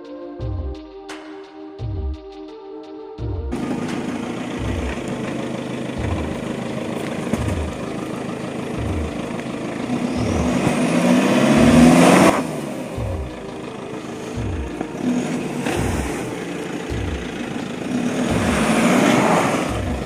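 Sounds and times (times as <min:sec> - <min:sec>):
background music with low beat: 0:00.0 - 0:20.0
car engine revving: 0:03.5 - 0:20.0.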